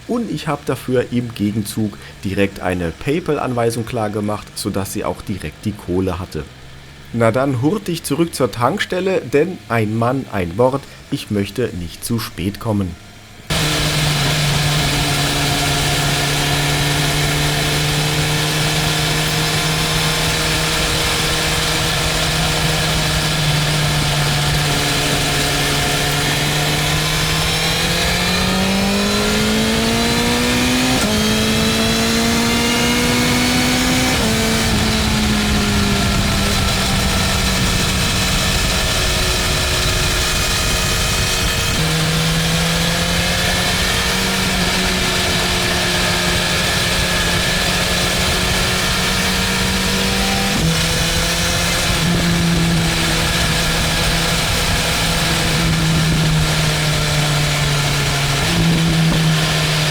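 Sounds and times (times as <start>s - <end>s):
motorcycle engine cruising: 0.0s - 59.9s
wind and road hiss: 0.0s - 59.9s.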